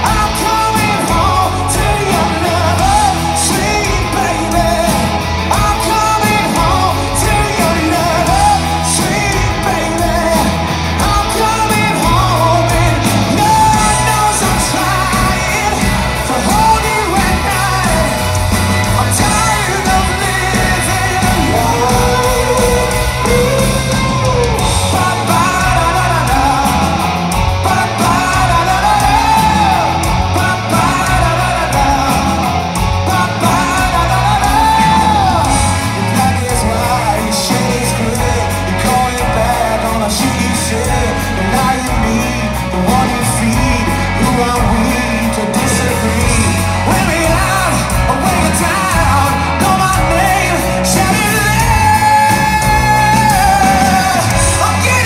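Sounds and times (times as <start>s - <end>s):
live rock band playing: 0.0s - 55.0s
man singing: 0.0s - 55.0s.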